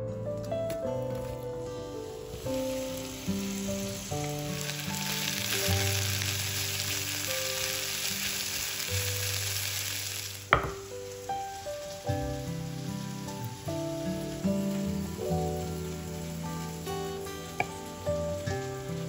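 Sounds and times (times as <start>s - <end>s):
onion sizzling in hot oil: 1.2s - 19.0s.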